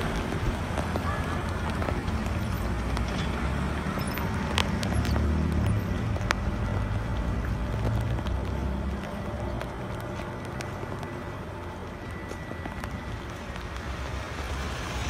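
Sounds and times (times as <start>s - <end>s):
cars passing on wet street: 0.0s - 15.0s.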